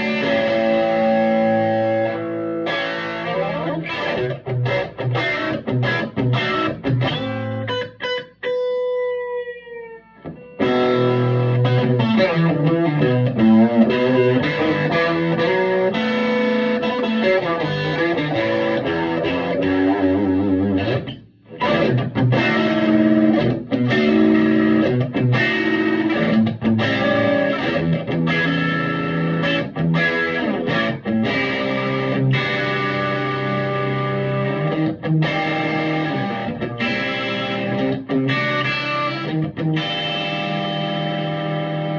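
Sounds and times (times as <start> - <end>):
overdriven electric guitar: 0.0 - 41.9.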